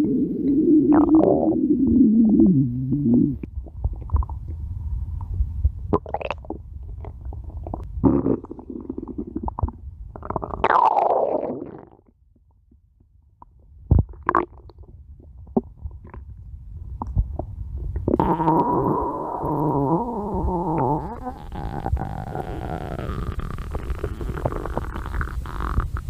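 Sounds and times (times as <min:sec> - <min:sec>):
stomach growling and gurgling: 0:00.0 - 0:26.0.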